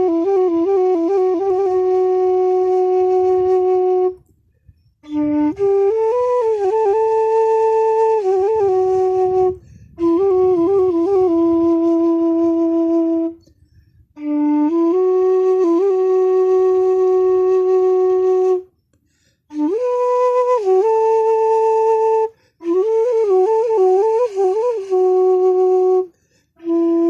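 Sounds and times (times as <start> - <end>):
bamboo flute melody: 0.0 - 27.0.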